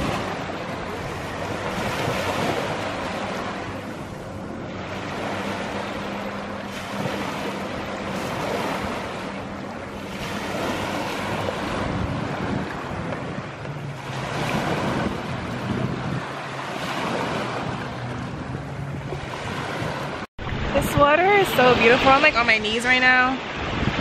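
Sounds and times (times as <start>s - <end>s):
surf washing onto beach: 0.0s - 24.0s.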